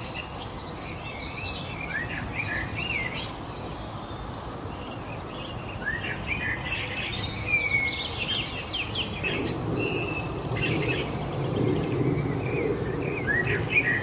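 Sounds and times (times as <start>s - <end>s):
low background rush: 0.0s - 14.0s
songbirds singing and chirping: 0.0s - 14.0s.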